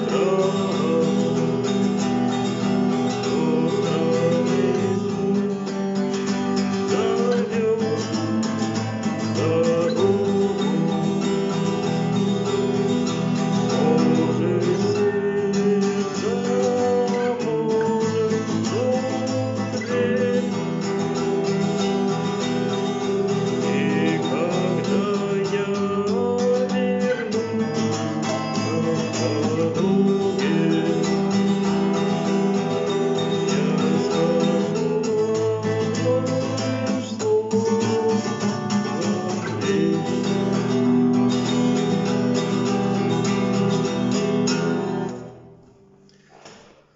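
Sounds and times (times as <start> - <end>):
acoustic guitar strumming: 0.0 - 46.9.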